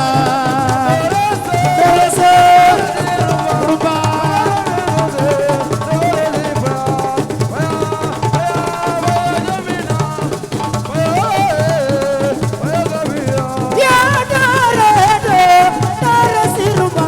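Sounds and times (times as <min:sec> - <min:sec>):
band music with drums: 0:00.0 - 0:17.0
drums beating steady rhythm: 0:00.0 - 0:17.0.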